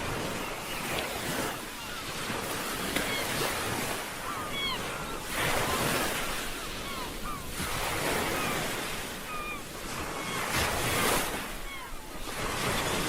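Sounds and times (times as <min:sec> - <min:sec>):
ocean waves washing ashore: 0:00.0 - 0:13.0
short gliding bird calls: 0:00.2 - 0:07.6, 0:08.2 - 0:10.6, 0:11.4 - 0:12.2.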